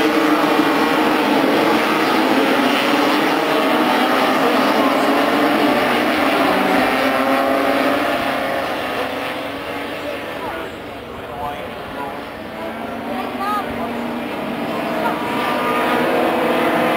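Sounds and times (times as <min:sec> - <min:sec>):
racing scooter engines buzzing: 0:00.0 - 0:16.9.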